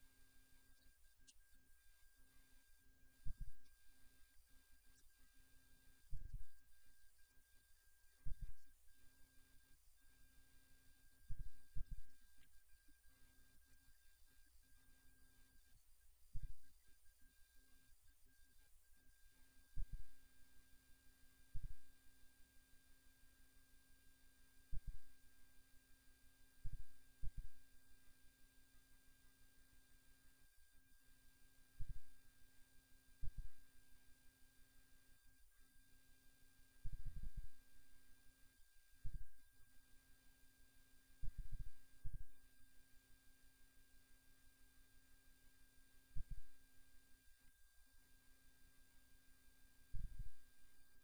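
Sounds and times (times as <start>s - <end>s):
steady low hum: 0.0s - 25.8s, 26.4s - 51.0s
faint high steady tone: 0.0s - 51.0s.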